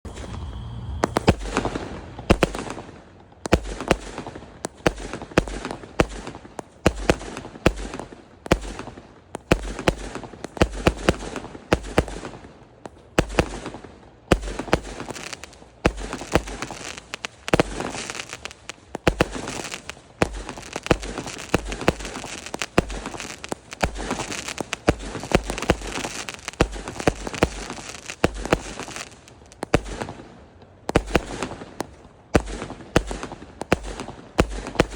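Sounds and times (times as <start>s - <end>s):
fireworks bangs: 0.0s - 8.9s, 13.2s - 34.9s.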